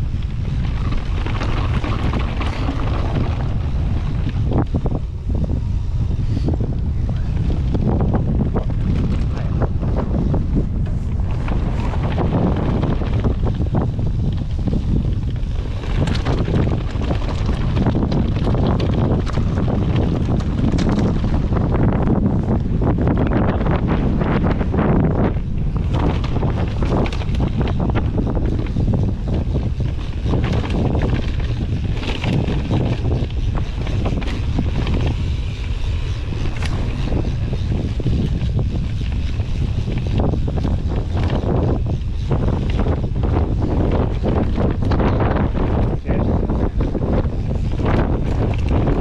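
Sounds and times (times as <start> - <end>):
bike clicking and rattling: 0.0 - 49.0
wind buffeting microphone: 0.0 - 49.0.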